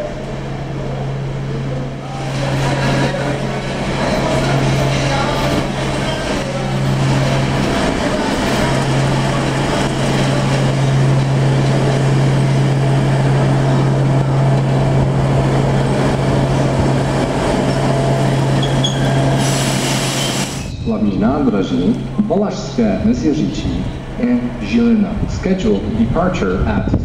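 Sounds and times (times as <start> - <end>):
diesel locomotive engine running: 0.0 - 27.0.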